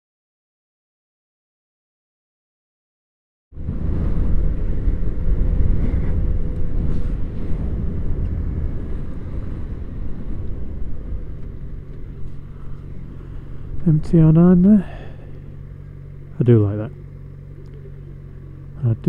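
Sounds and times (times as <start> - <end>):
wind: 3.5 - 19.0
motorcycle engine rumble: 3.6 - 19.0
road noise: 3.6 - 19.0.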